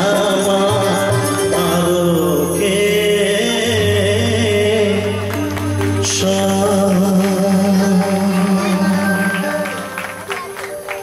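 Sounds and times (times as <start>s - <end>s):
man singing through pa: 0.0s - 10.0s
keyboard chords: 0.0s - 11.0s
live band playing: 0.0s - 11.0s.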